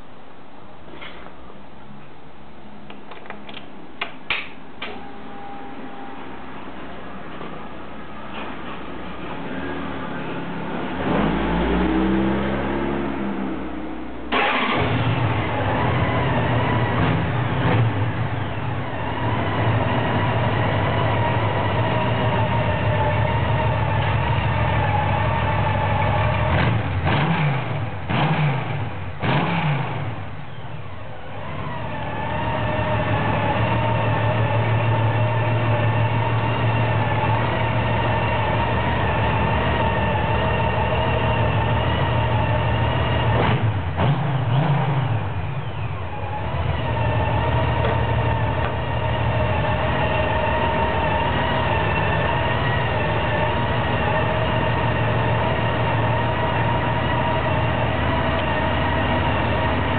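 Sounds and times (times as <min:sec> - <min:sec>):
engine throttle blips: 0:08.3 - 0:59.9.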